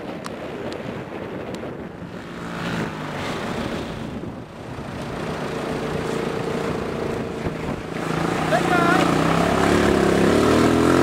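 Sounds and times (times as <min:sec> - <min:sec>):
quad bike engine revving: 0:01.9 - 0:11.0.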